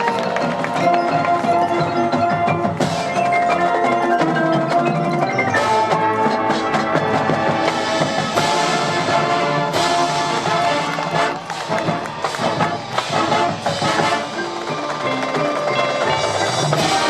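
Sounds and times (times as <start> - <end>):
mallet keyboards playing: 0.0 - 17.0
sharp percussion accents: 0.0 - 17.0.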